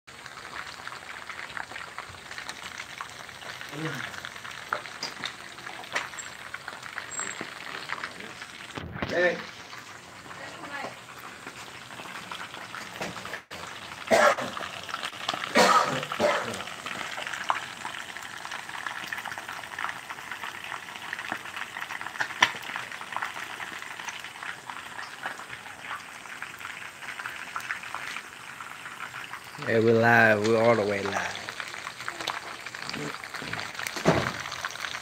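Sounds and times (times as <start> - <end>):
fish frying in hot oil: 0.1 - 35.0.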